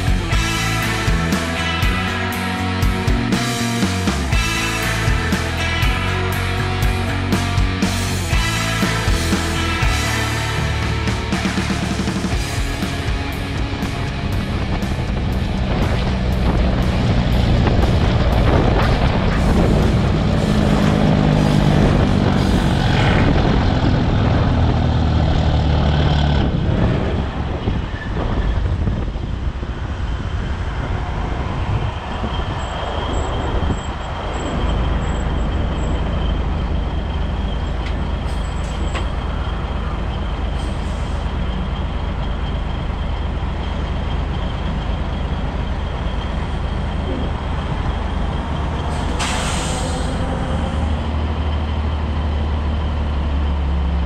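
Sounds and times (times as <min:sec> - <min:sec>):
diesel truck engine running: 0:00.0 - 0:54.0
road noise: 0:00.0 - 0:54.0.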